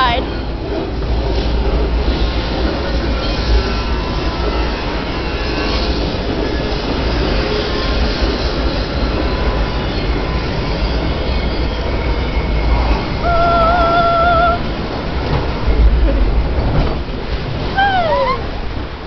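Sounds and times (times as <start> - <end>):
log flume ride rumbling: 0.0 - 19.0.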